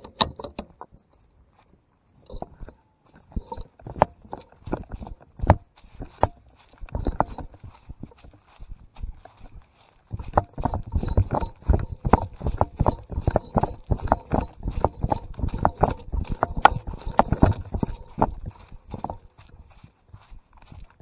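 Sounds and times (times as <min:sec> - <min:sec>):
camera knocking and jolting: 0:02.3 - 0:19.7
dog paws thumping wet ground: 0:03.4 - 0:21.0.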